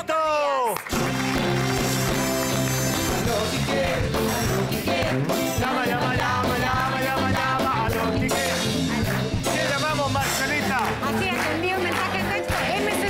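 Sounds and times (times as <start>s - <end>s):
upbeat music with steady beat: 0.9s - 13.0s.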